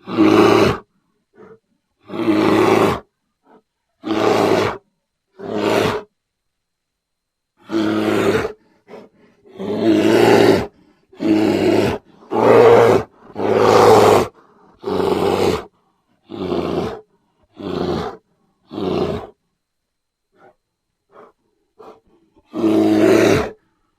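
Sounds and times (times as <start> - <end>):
bear growling and roaring: 0.0 - 4.8, 5.4 - 6.1, 7.6 - 19.4, 20.4 - 23.7.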